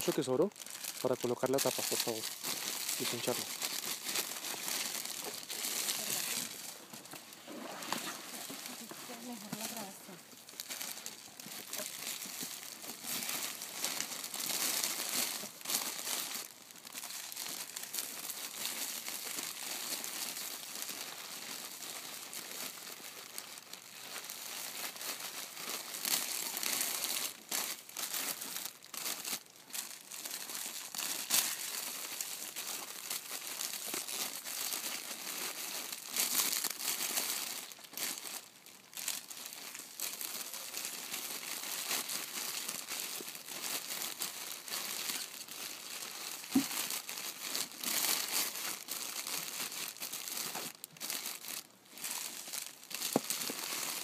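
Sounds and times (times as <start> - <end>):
plastic sleeves crinkling: 0.0 - 54.0.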